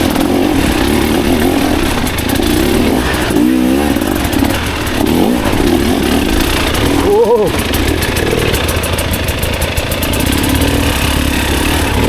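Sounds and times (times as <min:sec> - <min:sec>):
dirt bike engine under load: 0:00.0 - 0:12.0.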